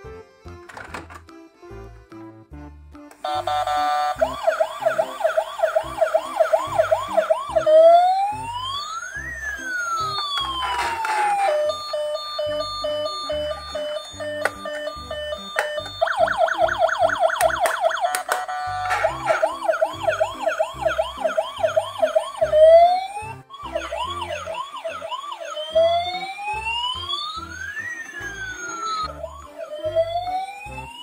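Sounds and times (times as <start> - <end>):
toy electronic siren: 3.2 - 31.0.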